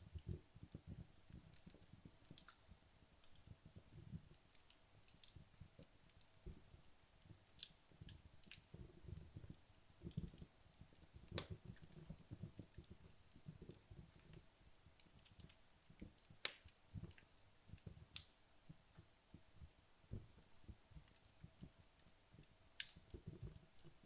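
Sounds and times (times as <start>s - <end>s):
logs crackling in fireplace: 0.0s - 24.0s.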